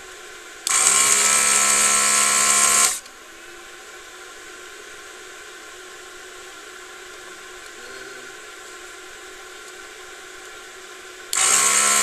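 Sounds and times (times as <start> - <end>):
desoldering gun vacuum pump running: 0.0 - 3.6, 4.4 - 12.0.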